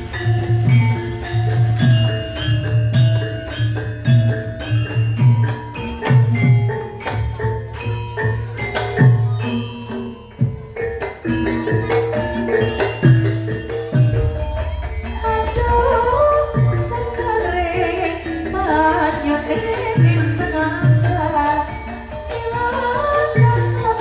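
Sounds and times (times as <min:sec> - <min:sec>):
hand drum strokes: 0:00.0 - 0:24.0
metallophones and gongs: 0:00.0 - 0:24.0.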